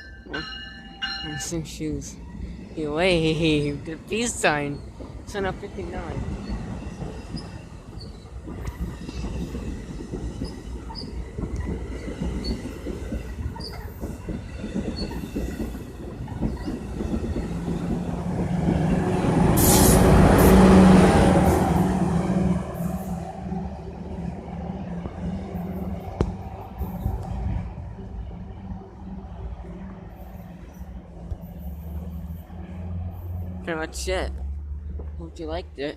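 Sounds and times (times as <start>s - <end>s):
train engine drone: 0.0s - 35.9s
train wheels rumbling and clacking: 0.0s - 35.9s.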